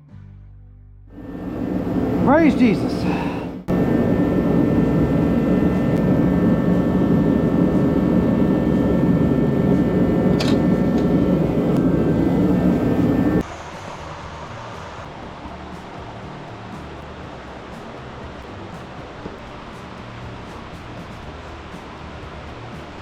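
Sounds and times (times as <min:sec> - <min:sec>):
machine drone with faint whine: 0:01.1 - 0:23.0.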